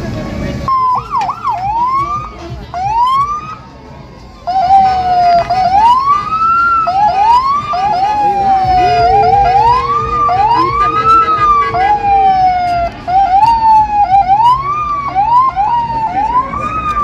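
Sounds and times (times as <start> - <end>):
vehicle siren sweeping: 0.7 - 3.6, 4.5 - 17.0.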